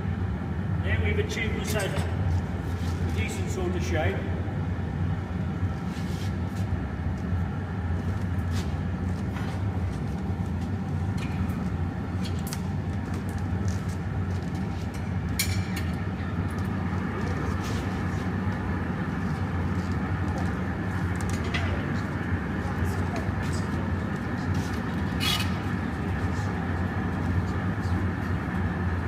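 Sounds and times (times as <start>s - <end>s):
furnace roaring: 0.0s - 29.0s.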